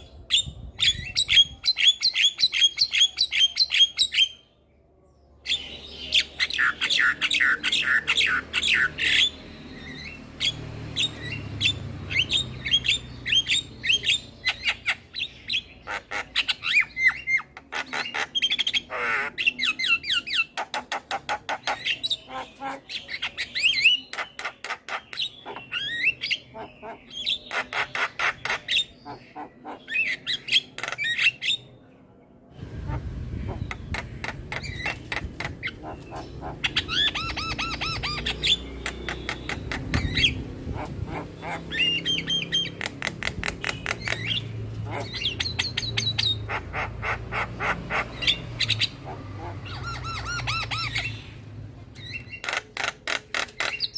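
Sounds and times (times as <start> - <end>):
myna bird chattering and whistling: 0.0 - 4.5, 5.4 - 31.8, 32.7 - 53.9.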